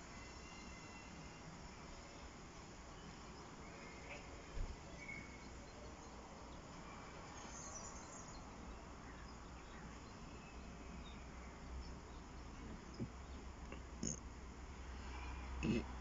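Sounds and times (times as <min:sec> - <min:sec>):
low outdoor background noise: 0:00.0 - 0:16.0.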